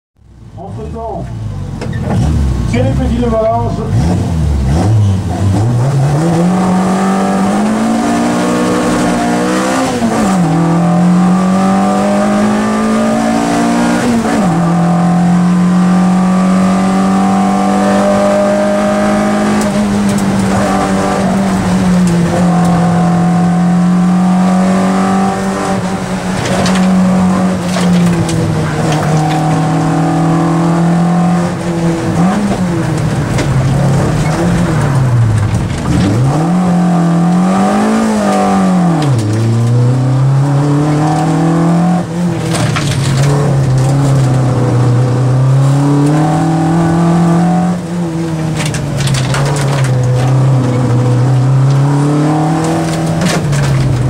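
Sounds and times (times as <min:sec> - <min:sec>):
rally car engine accelerating: 0:00.5 - 0:54.0.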